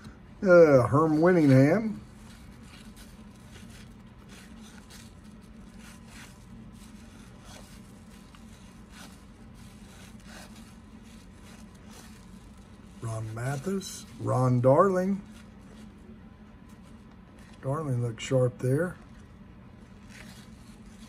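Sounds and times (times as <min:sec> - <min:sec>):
cards rubbing together: 0:00.0 - 0:17.9, 0:18.7 - 0:21.0
steady low hum: 0:00.0 - 0:21.0.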